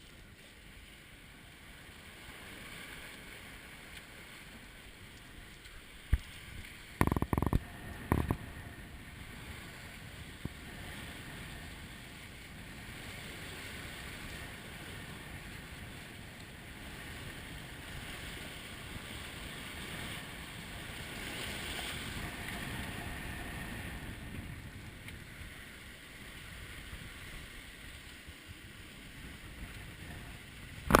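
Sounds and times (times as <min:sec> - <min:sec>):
sea water rushing: 0:00.0 - 0:31.0
wind: 0:00.0 - 0:31.0.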